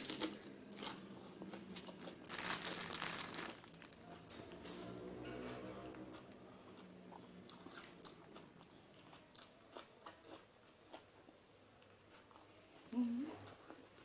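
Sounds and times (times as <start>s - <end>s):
person chewing raw vegetables: 0.0s - 4.3s, 5.9s - 14.0s.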